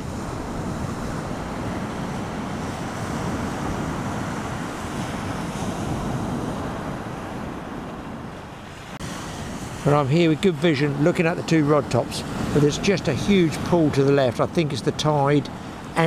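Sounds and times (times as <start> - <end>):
surf breaking on shore: 0.0 - 16.0
wind blowing across microphone: 0.0 - 16.0.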